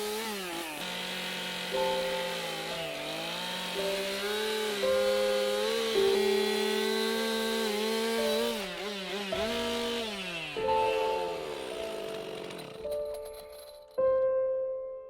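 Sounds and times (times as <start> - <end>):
chainsaw carving wood: 0.0 - 14.1.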